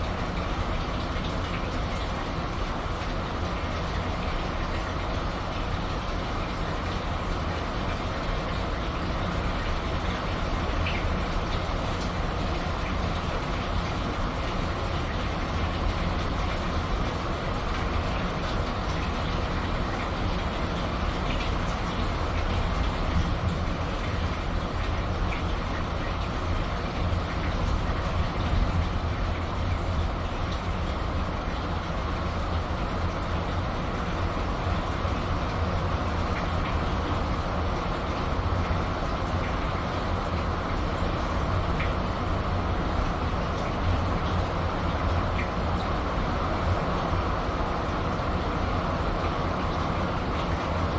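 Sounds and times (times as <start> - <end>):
constant low rumble: 0.0 - 50.9
steady rain falling: 0.0 - 50.9.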